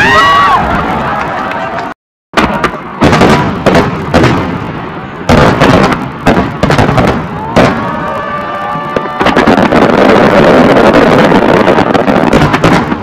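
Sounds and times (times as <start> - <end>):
firework crackling: 2.4 - 13.0.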